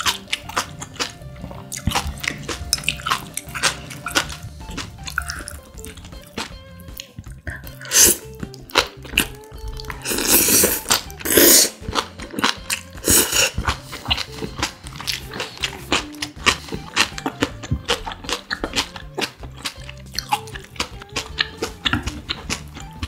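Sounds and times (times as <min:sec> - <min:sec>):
noodles being slurped: 0:00.0 - 0:22.8
background music with bass line: 0:00.0 - 0:23.0
crisp crunching and chewing: 0:00.0 - 0:23.0.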